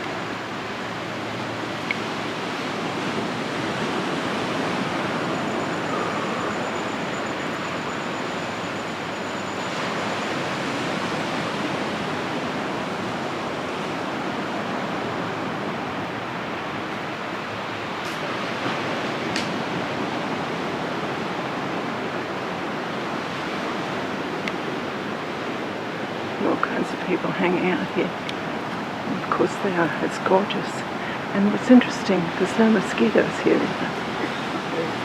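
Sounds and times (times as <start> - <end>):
ocean surf washing onto beach: 0.0 - 35.0.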